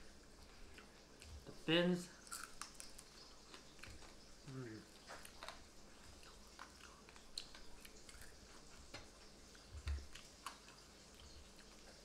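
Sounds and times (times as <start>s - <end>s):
person chewing crunchy fried fish: 2.2s - 12.0s.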